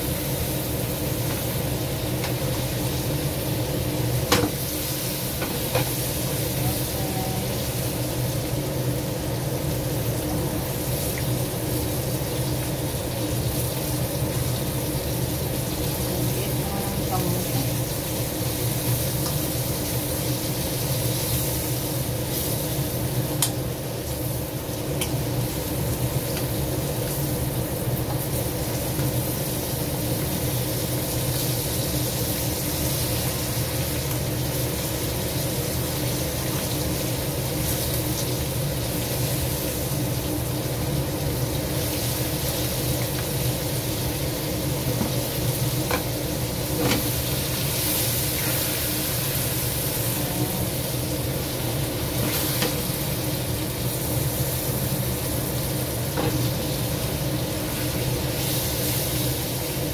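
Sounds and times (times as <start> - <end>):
crab sizzling in a wok: 0.0 - 59.9.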